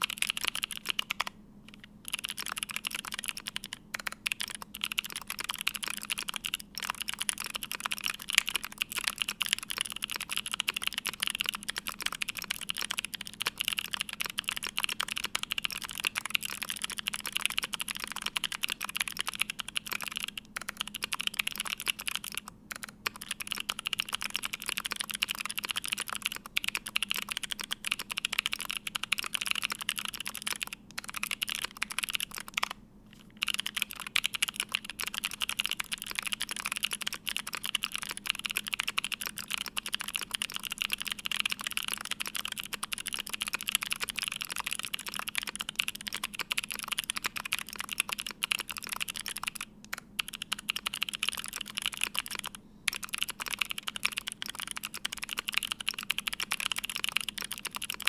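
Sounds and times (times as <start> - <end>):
fast mechanical keyboard typing: 0.0 - 58.0.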